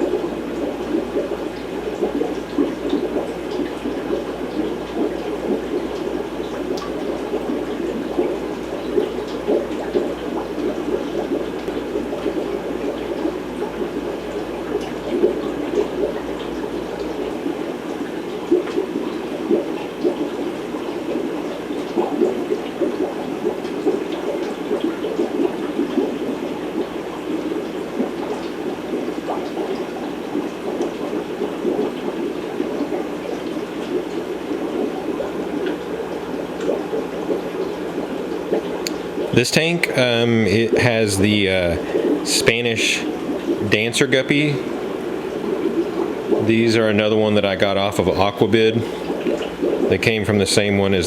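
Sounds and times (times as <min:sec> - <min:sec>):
aquarium filter bubbling: 0:00.0 - 0:51.0.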